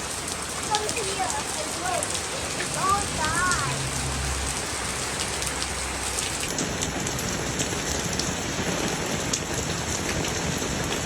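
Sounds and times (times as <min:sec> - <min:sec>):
heavy rain splattering: 0:00.0 - 0:11.0.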